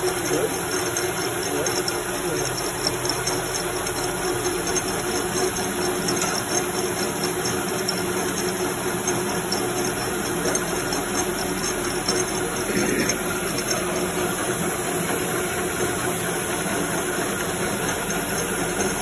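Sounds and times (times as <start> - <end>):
faint irregular ticking: 0.0 - 16.0
paper-folding machine humming: 0.0 - 19.0.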